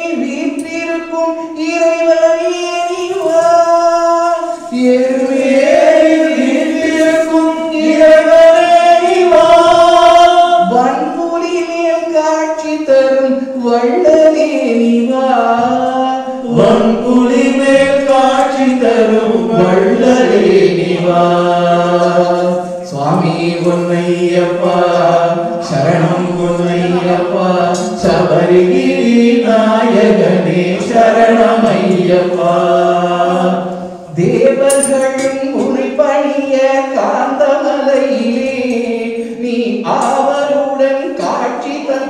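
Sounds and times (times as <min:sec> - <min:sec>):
group singing devotional song: 0:00.0 - 0:42.0.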